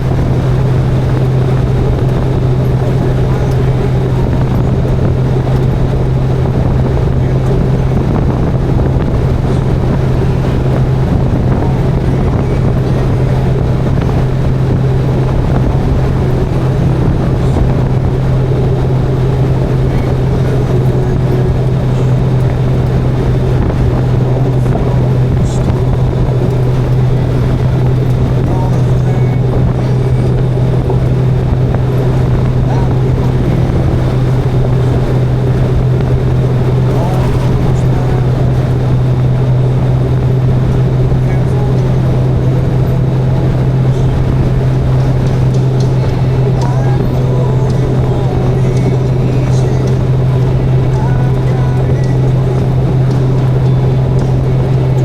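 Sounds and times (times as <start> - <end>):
motorcycle engine drone: 0.0 - 55.0
wind noise on microphone: 0.0 - 55.0.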